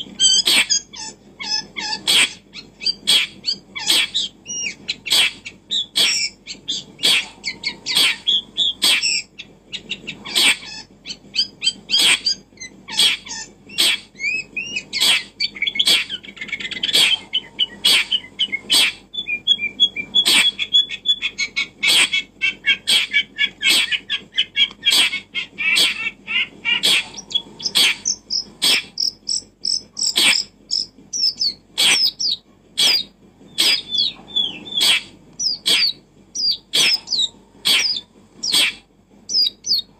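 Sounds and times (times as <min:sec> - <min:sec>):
birds chirping and warbling: 0:00.0 - 0:39.9.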